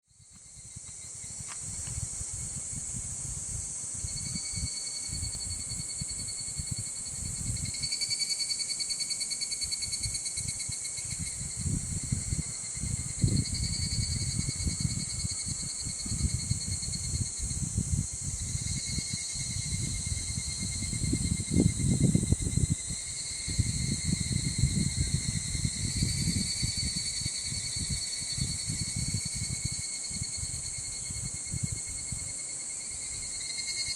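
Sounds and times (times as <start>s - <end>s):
insects chorus trilling: 0.1s - 33.9s
wind buffeting microphone: 0.4s - 7.9s, 10.0s - 32.4s.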